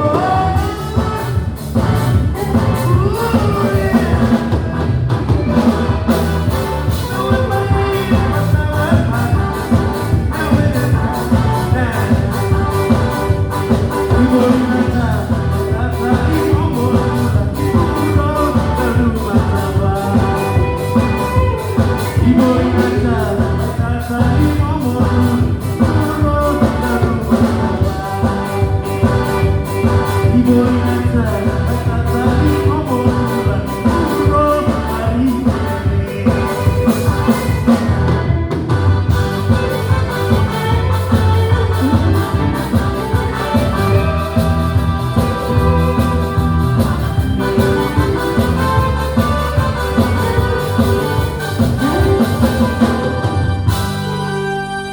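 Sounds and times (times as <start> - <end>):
steady drum beat: 0.0 - 54.4
band playing live: 0.0 - 54.9
person singing: 0.0 - 54.9.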